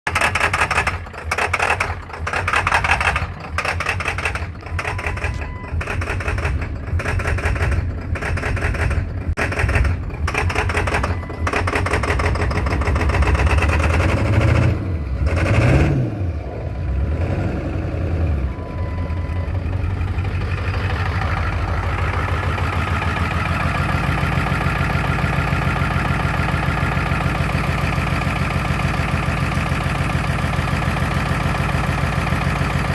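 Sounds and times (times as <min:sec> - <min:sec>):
diesel engine running rough: 0:00.0 - 0:32.9.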